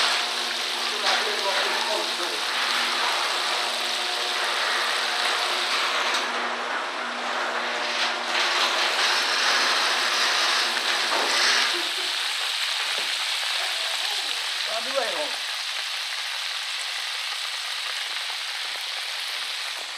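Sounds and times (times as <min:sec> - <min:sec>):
fish deep-frying in oil: 0:00.0 - 0:19.9.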